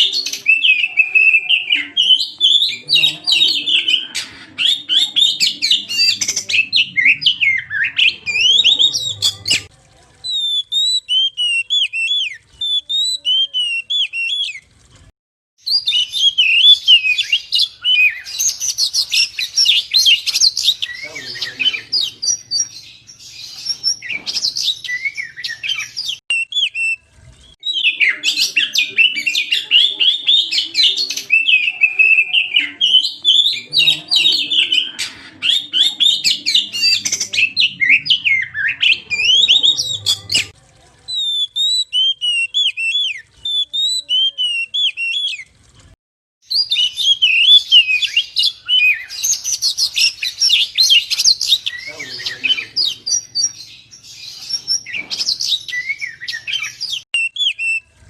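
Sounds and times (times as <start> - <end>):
bird singing chirps and trills: 0.0 - 9.7, 10.3 - 14.7, 15.6 - 45.5, 46.5 - 57.9.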